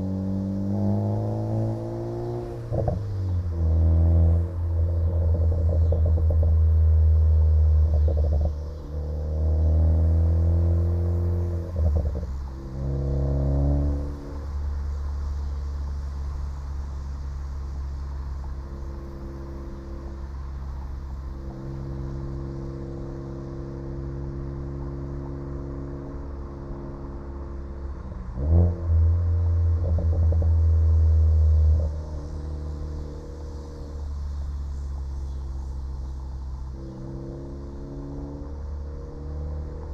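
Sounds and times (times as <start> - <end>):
car engine droning and revving: 0.0 - 39.9.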